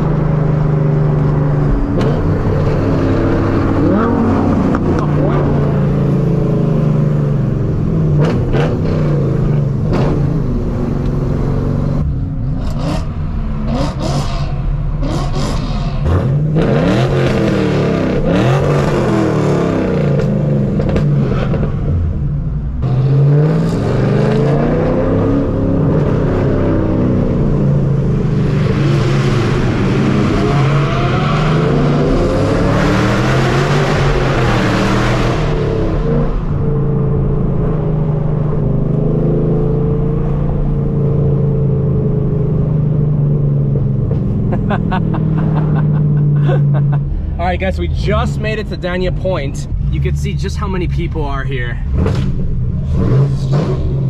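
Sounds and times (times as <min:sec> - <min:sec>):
car exhaust drone accelerating: 0:00.0 - 0:54.0.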